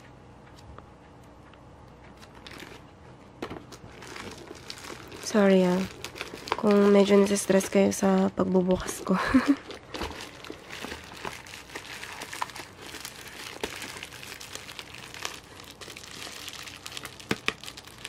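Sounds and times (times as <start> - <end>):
bubble wrap crinkling: 2.2 - 18.0.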